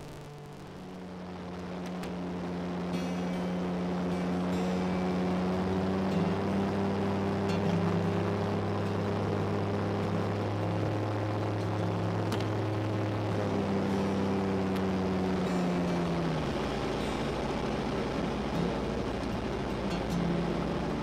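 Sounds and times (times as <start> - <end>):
light aircraft engine drone: 0.0 - 21.0.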